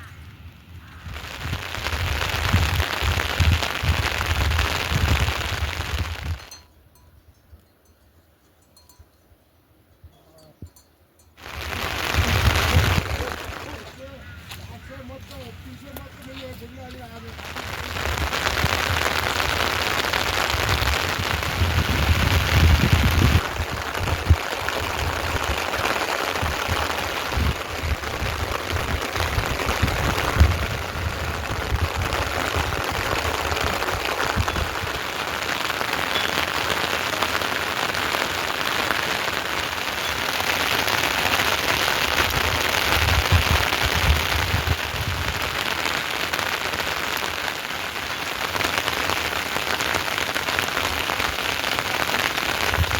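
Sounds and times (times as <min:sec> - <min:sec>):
heavy rain falling: 0:00.0 - 0:06.7, 0:11.4 - 0:52.9.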